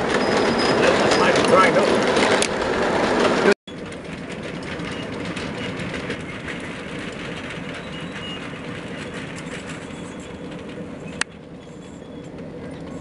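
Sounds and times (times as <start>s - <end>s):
faint clicking over rail joints: 0.0s - 13.0s
train wheels rumbling on rails: 0.0s - 13.0s.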